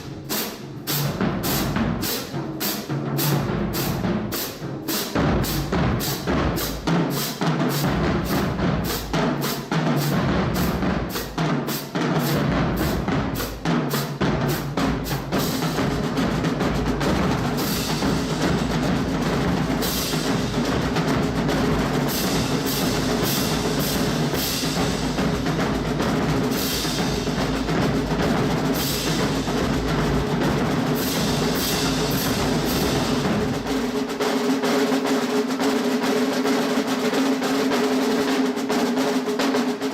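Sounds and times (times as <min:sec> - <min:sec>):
rapid drum strokes: 0:00.0 - 0:39.9.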